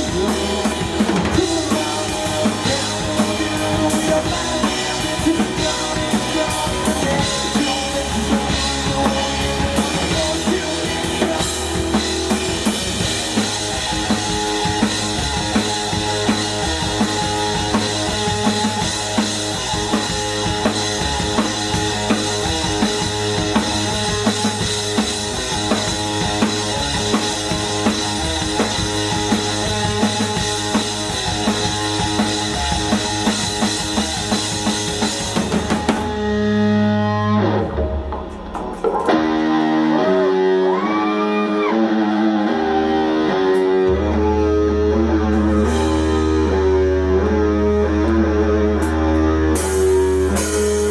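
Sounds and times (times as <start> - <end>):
drum kit beat: 0.0 - 40.9, 45.3 - 47.0, 48.8 - 50.9
rock band playing live: 0.0 - 50.9.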